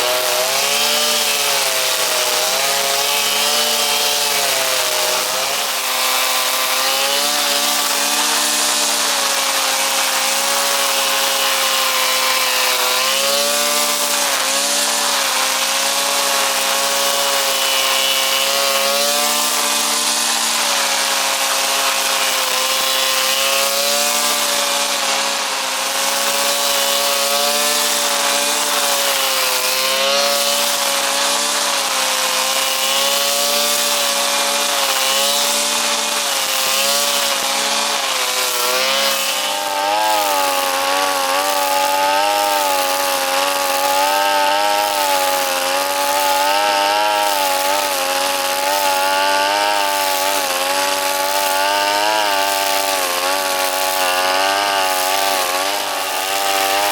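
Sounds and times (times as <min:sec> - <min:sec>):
brush cutter engine running: 0:00.0 - 0:56.9.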